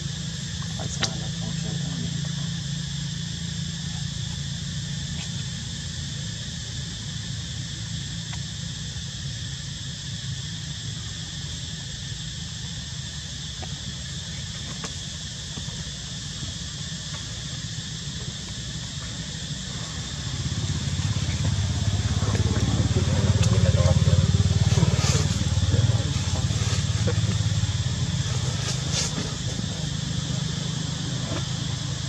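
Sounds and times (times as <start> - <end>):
high-pitched insect drone: 0.0 - 32.0
low steady rumble: 0.0 - 32.0.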